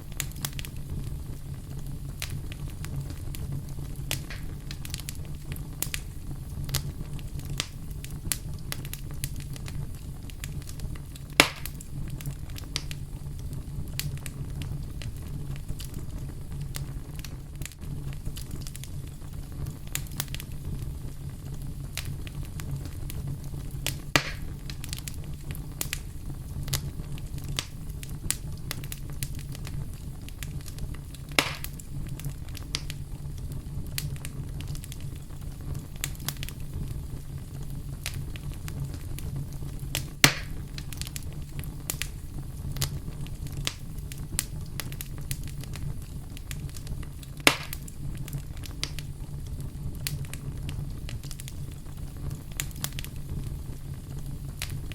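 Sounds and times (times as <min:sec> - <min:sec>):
campfire crackling: 0:00.0 - 0:54.9
loud fire pops: 0:00.0 - 0:54.9
low fire rumble: 0:00.0 - 0:54.9.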